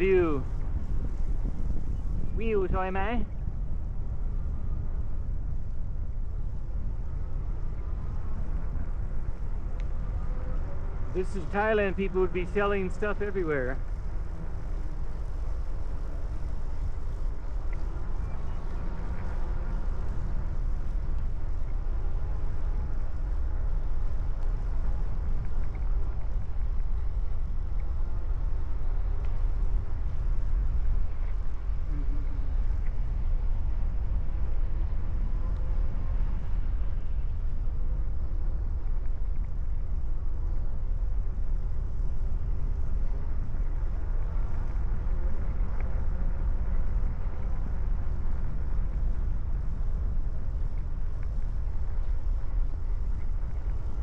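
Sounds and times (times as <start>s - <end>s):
bicycle road noise: 0.0s - 54.0s
wind buffeting microphone: 0.0s - 54.0s.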